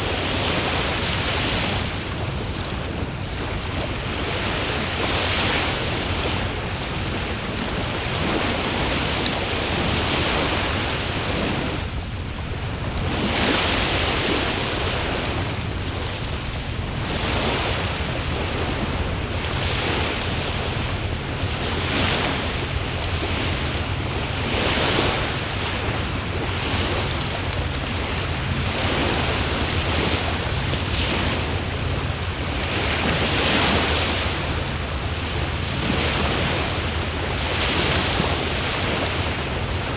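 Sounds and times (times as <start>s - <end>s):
fire crackles: 0.0s - 13.7s, 14.4s - 39.9s.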